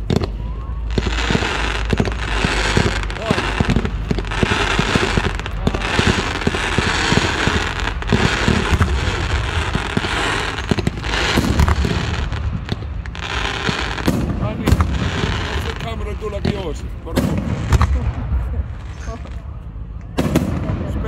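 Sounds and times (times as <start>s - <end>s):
fountain fireworks hissing: 0.0s - 19.4s.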